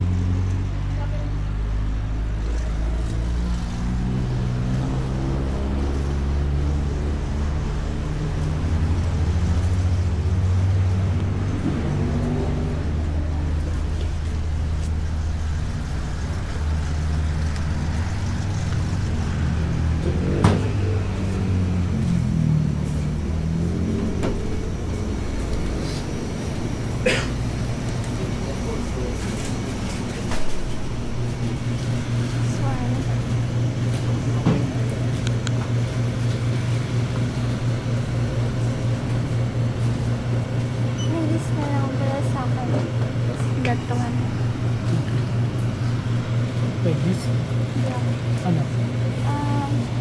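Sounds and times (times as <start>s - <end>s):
car engine rumbling inside: 0.0s - 50.0s
low mechanical hum: 0.0s - 50.0s.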